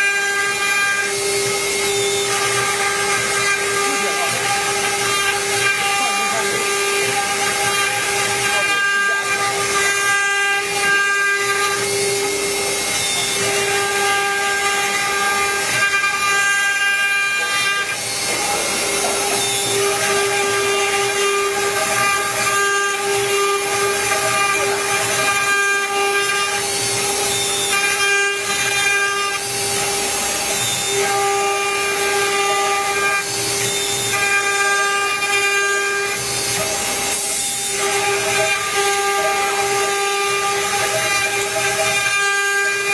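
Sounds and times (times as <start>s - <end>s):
router spindle whine: 0.0s - 42.9s.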